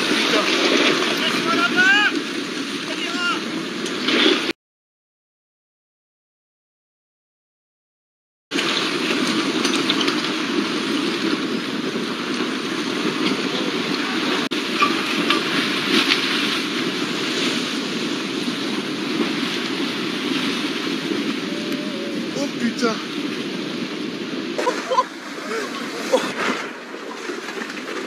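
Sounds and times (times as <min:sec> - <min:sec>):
mud and rocks rushing: 0:00.0 - 0:04.5, 0:08.5 - 0:23.5, 0:24.5 - 0:28.0.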